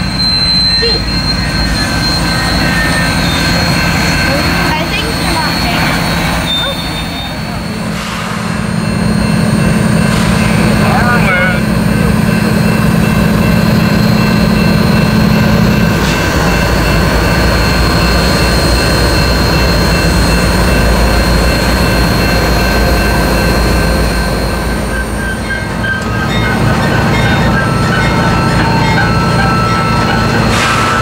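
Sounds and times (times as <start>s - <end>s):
locomotive engine rumble: 0.0s - 31.0s.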